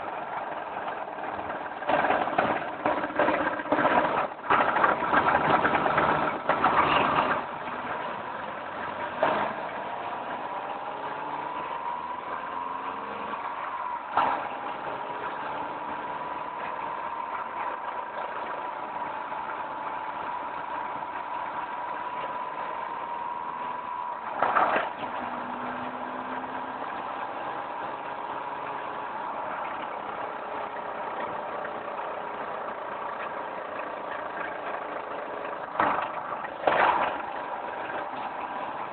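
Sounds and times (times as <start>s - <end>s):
car whine rising in pitch: 4.8s - 38.9s.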